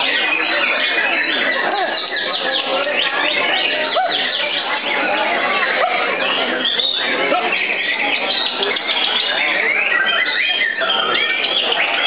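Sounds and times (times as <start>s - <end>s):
chorus of songbirds singing: 0.0s - 12.0s.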